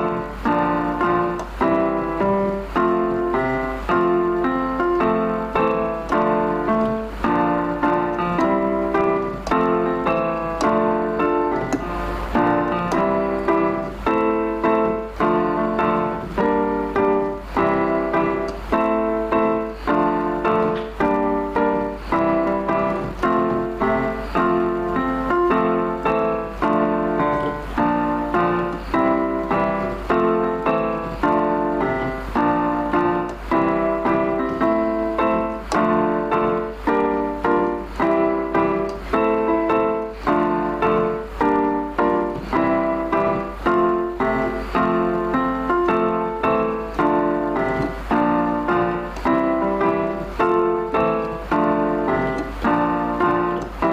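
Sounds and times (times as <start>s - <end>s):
background piano music: 0.0s - 53.9s.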